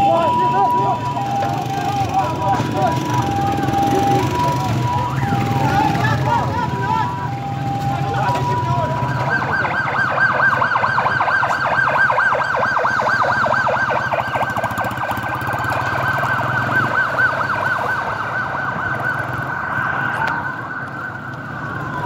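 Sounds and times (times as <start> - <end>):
emergency siren yelping: 0.0 - 22.0.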